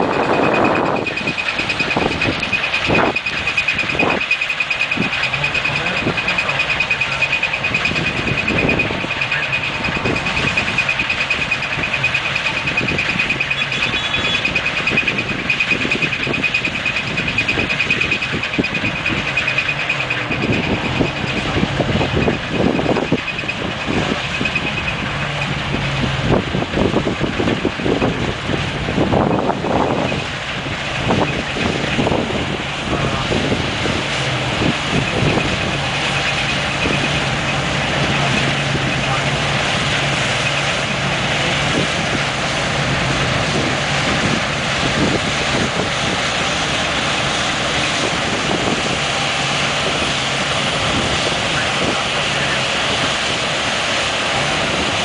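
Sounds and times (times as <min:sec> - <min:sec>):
combine harvester running: 0:00.0 - 0:55.0
constant high whine: 0:00.0 - 0:55.0.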